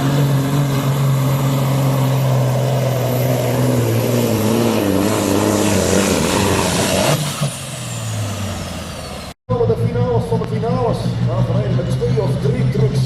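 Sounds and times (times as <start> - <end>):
diesel engine under full load: 0.0 - 13.0.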